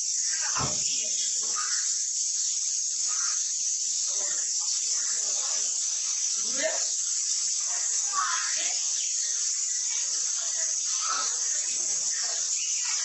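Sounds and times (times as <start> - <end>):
faint background sounds: 0.0 - 13.0
high-pitched hiss: 0.0 - 13.0.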